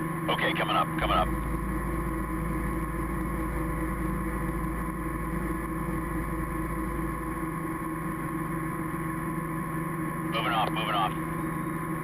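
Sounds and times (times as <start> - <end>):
helicopter drone: 0.0 - 12.0.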